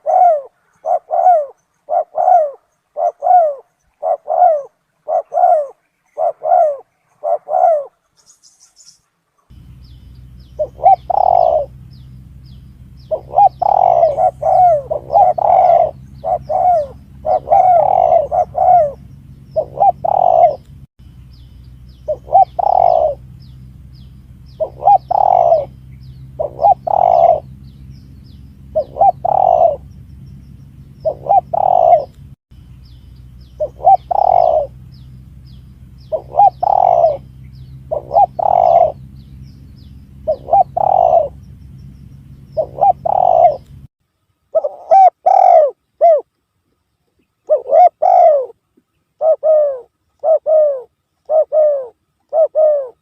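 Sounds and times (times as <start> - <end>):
dove cooing: 0.0 - 8.4, 9.5 - 20.8, 21.9 - 30.2, 30.8 - 32.3, 33.4 - 41.6, 42.2 - 43.9, 44.5 - 46.3, 47.4 - 48.6, 49.2 - 53.0
low steady hum: 0.0 - 53.0.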